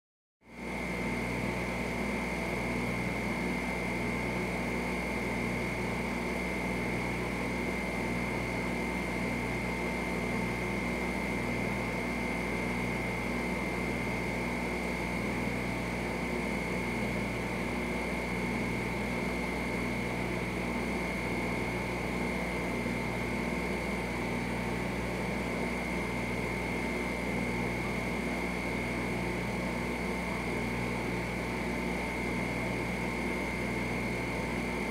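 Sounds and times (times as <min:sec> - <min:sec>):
aquarium equipment humming: 0:00.6 - 0:34.9.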